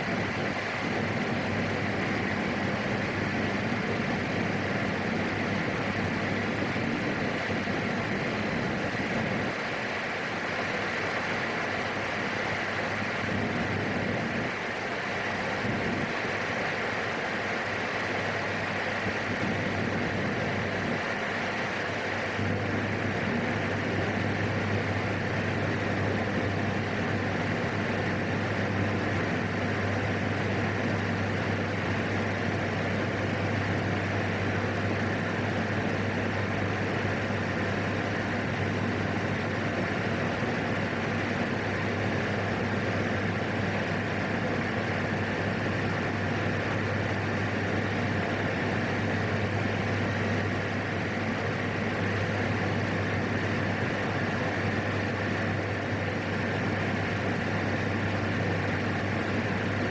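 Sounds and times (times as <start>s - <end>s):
turboprop engine droning: 0.0s - 59.9s.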